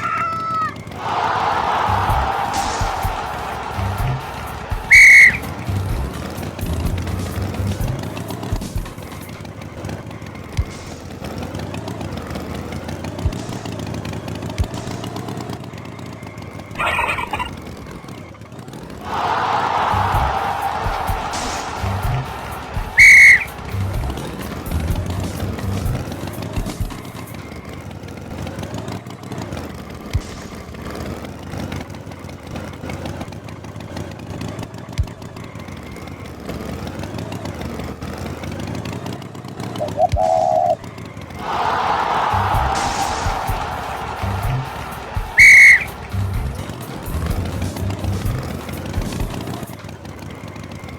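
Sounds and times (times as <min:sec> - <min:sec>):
tractor engine running: 0:00.8 - 0:50.9.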